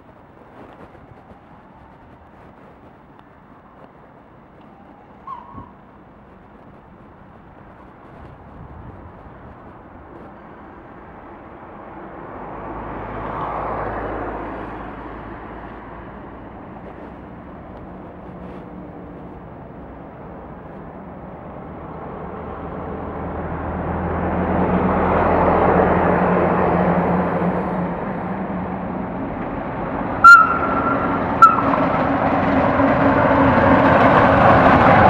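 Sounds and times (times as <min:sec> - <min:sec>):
locomotive engine drone: 0:00.0 - 0:35.0.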